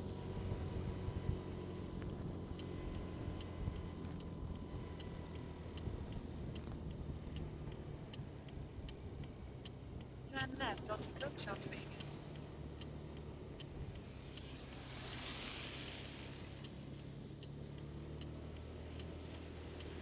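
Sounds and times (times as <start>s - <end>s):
motorcycle engine running: 0.0s - 20.0s
turn-signal indicator ticking: 0.0s - 20.0s
wind and road noise: 0.0s - 20.0s.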